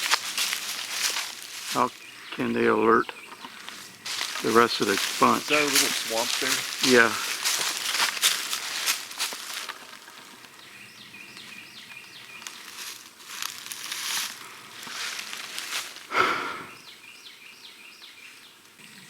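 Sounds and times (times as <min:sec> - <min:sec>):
footsteps rustling through brush: 0:00.0 - 0:02.4, 0:03.3 - 0:16.6.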